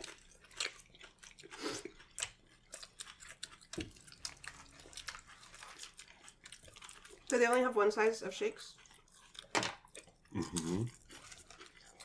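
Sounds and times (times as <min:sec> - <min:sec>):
people chewing and eating: 0:00.0 - 0:12.0.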